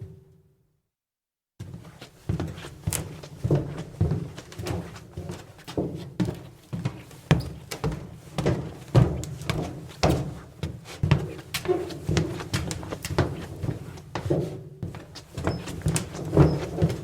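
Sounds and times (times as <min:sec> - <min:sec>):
footsteps on metal deck: 0:01.6 - 0:17.0.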